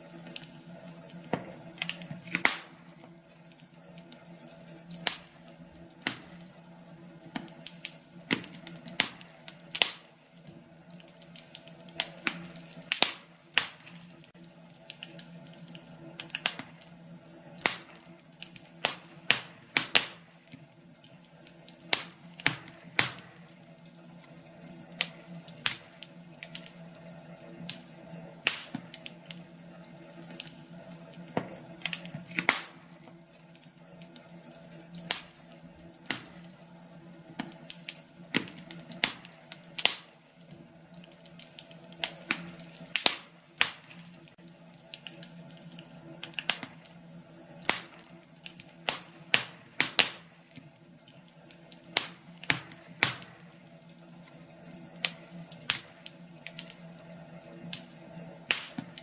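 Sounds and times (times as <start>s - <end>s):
firewood crackling in a fireplace: 0.0s - 59.0s.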